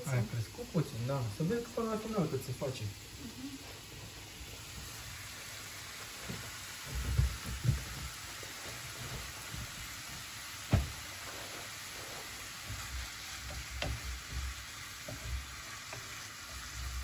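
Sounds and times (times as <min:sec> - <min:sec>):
meat and onion sizzling in a pan: 0:00.0 - 0:17.0.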